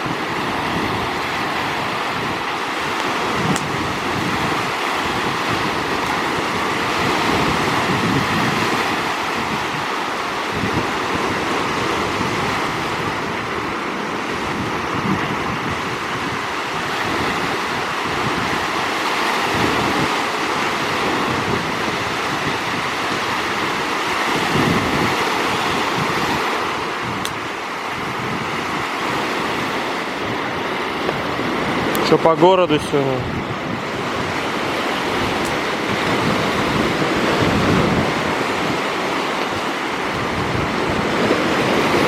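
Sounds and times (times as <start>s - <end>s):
sea surf washing on shore: 0.0s - 42.0s
wind buffeting microphone: 0.0s - 42.0s.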